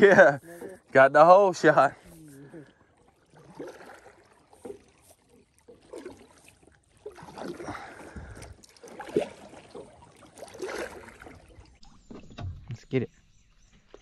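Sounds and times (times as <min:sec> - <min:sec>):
kayak paddle splashing: 0:00.0 - 0:12.4.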